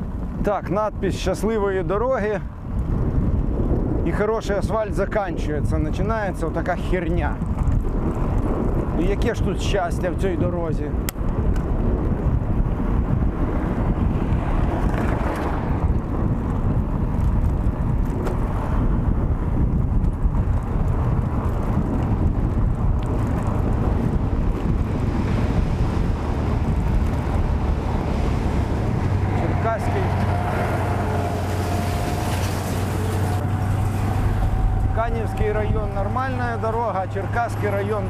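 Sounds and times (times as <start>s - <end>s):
bike tyre rumble on asphalt: 0.0s - 38.0s
wind buffeting microphone: 0.0s - 38.0s.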